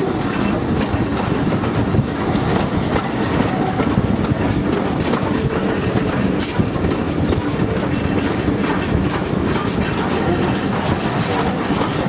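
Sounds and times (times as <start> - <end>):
train wheels rumbling on rails: 0.0 - 12.0
wheels clicking on rail joints: 0.0 - 12.0.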